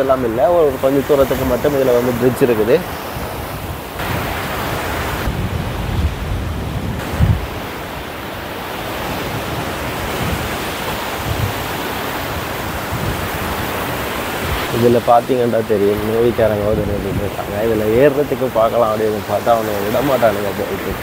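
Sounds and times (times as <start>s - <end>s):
surf breaking on sandy shore: 0.0s - 21.0s
wind buffeting microphone: 0.0s - 21.0s.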